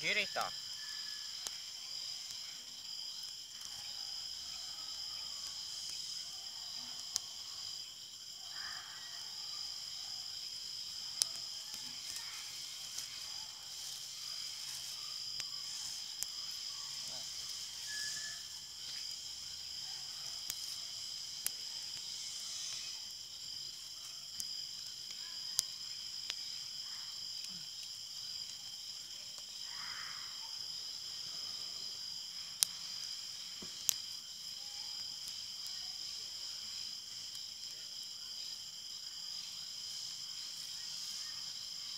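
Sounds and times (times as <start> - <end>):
crickets and insects chirping: 0.0 - 41.9.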